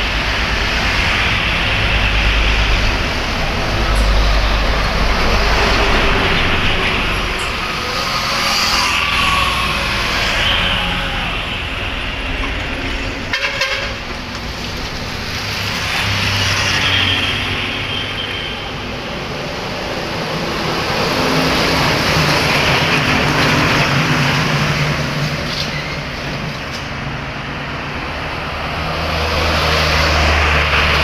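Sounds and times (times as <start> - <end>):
vehicles passing on a road: 0.0 - 31.0.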